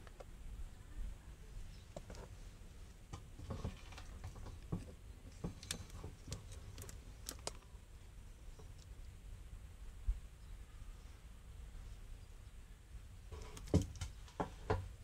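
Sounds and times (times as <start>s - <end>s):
low steady rumble: 0.0s - 13.4s.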